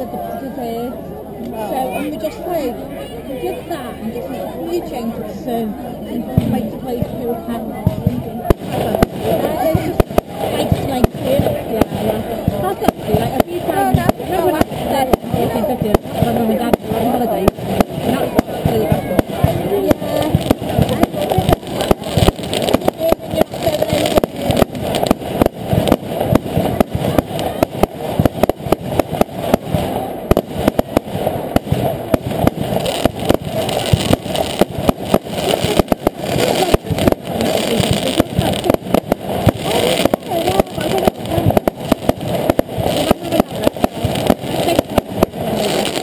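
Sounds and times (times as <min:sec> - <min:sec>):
crowd chatter: 0:00.0 - 0:46.0
fireworks banging: 0:04.7 - 0:46.0.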